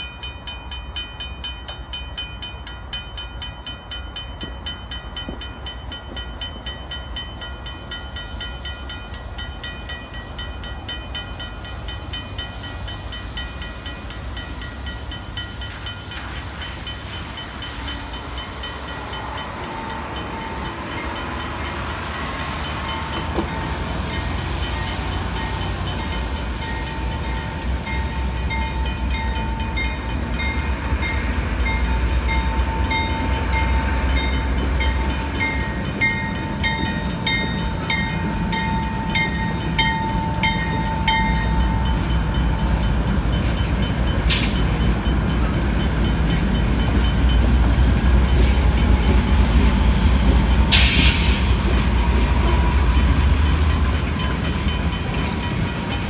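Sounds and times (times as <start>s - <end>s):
diesel locomotive rumble: 0.0s - 56.0s
railway crossing bell ringing: 0.0s - 56.0s.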